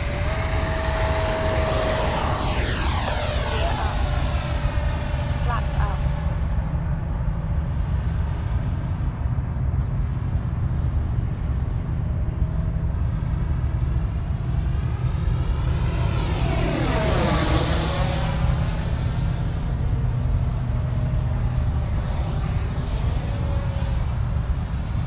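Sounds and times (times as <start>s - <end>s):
jet model fan whine: 0.0s - 25.0s.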